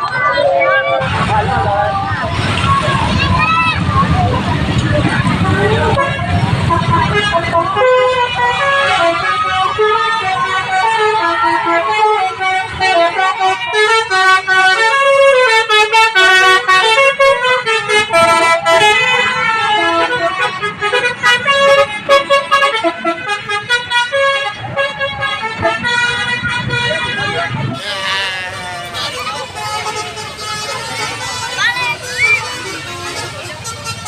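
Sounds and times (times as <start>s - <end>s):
multi-tone bus horn melody: 4.8s - 34.0s.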